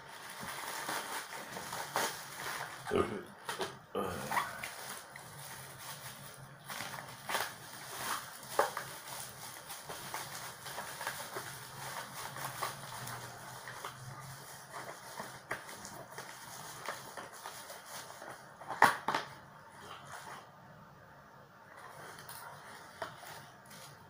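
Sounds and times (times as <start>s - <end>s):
plastic wrap crinkling and tearing: 0.0s - 20.4s, 21.8s - 24.0s.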